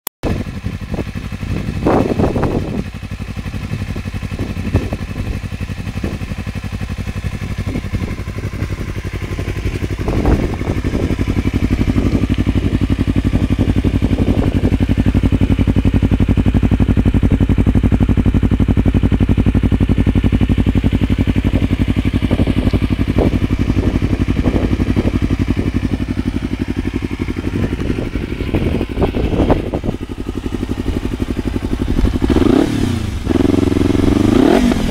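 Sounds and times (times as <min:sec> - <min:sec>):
motorcycle throttle blips: 0:00.2 - 0:34.9
motorcycle engine idling: 0:00.3 - 0:34.9.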